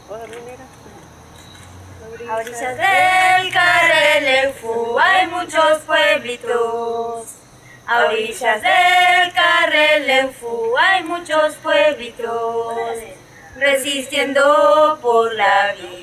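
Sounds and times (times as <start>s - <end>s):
group singing a chant: 2.5s - 16.0s.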